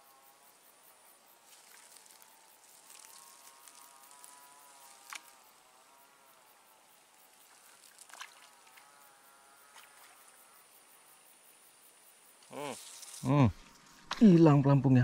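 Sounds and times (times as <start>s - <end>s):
flying insect buzzing: 0.0s - 14.2s
high-pitched insect trill: 0.0s - 15.0s.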